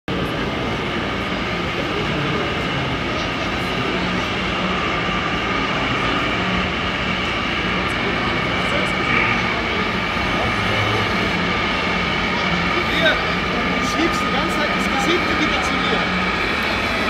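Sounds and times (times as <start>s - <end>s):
exhibition hall hum: 0.1s - 17.0s.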